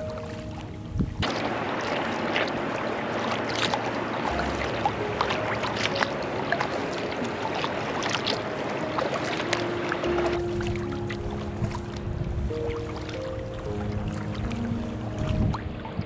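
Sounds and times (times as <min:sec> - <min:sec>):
paddle splashing in water: 0:00.0 - 0:16.0
water drips and trickles: 0:00.0 - 0:16.0.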